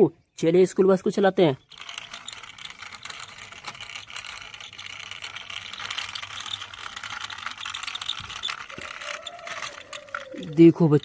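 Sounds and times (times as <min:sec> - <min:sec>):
toy bus rattling on plastic track: 0:00.7 - 0:11.0.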